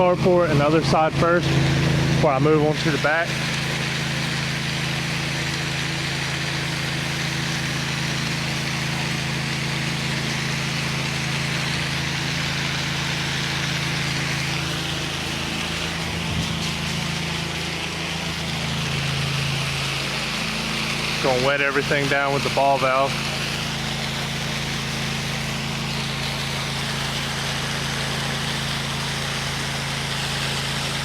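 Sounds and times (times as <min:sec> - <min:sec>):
pressure washer engine running: 0:00.0 - 0:31.0
water spraying hiss: 0:01.7 - 0:31.0.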